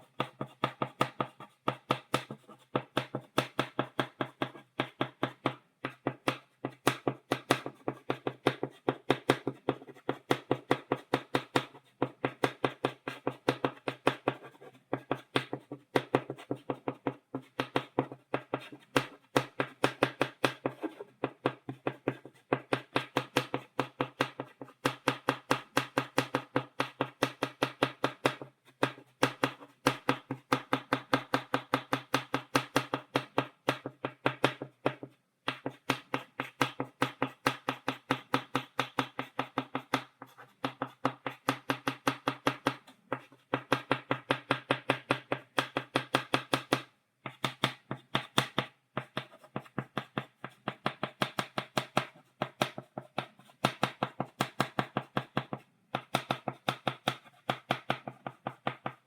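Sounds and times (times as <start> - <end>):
chalk tapping on blackboard: 0.0 - 59.0.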